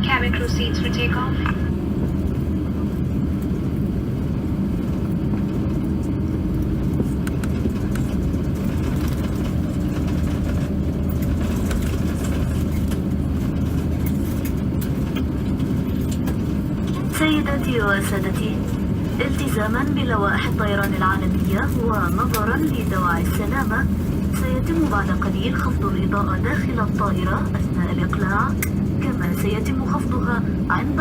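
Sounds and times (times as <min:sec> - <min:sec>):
jet engine rumble and hum: 0:00.0 - 0:31.0
faint rattles and ticks: 0:04.7 - 0:30.2.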